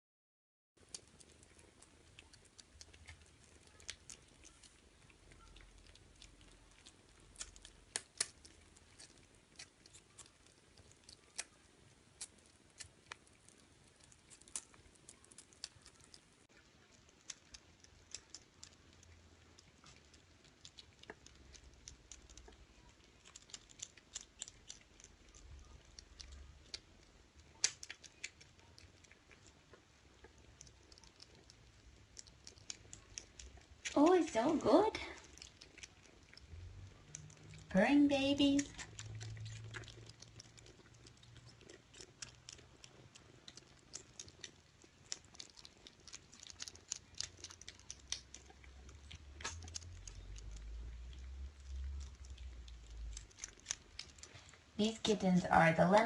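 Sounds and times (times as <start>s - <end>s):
kittens chewing clicks: 0.8s - 56.0s.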